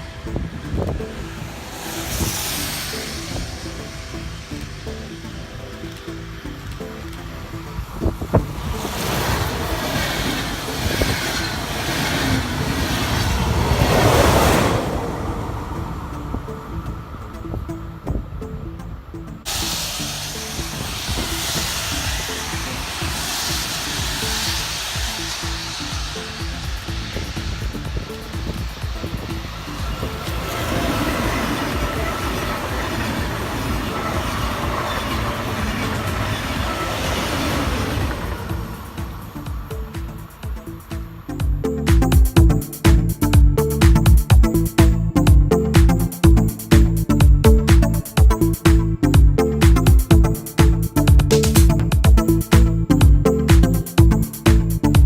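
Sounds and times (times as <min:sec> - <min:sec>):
train passing by: 0:00.0 - 0:55.0.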